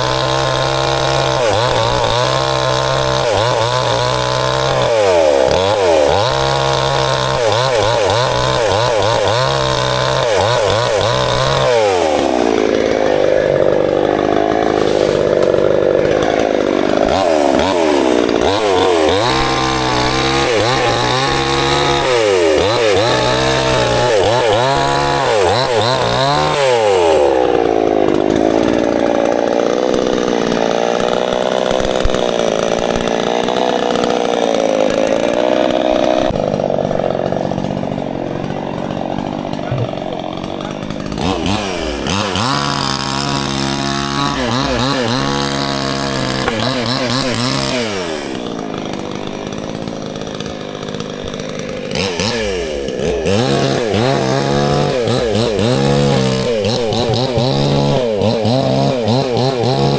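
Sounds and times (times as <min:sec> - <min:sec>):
chainsaw cutting logs: 0:00.0 - 0:59.9.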